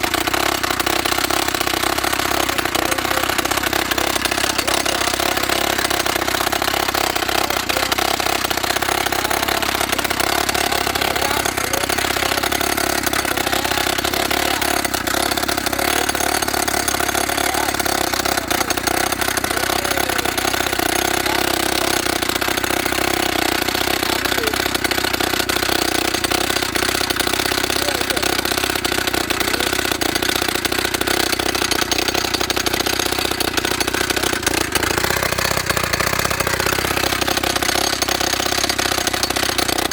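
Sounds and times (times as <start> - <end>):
rock drill engine rattling: 0.0 - 39.9.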